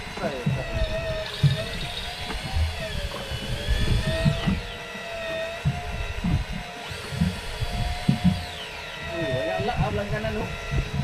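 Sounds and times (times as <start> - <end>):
low thumps: 0.0 - 4.7, 5.6 - 10.0
motor whining: 0.0 - 11.0.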